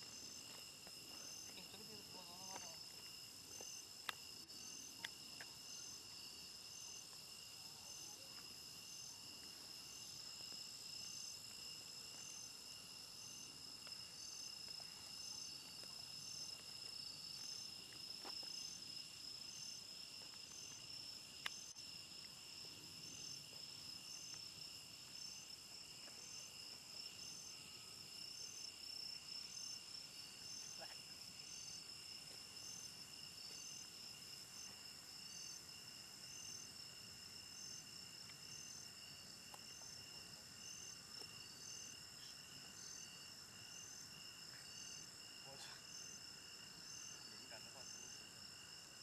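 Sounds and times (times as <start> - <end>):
night insects trilling: 0.0 - 49.0.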